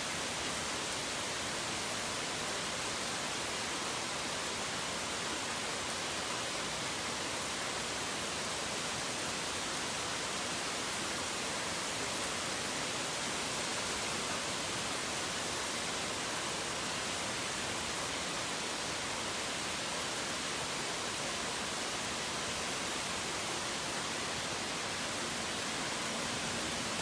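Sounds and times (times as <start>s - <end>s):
heavy rain hiss: 0.0s - 27.0s.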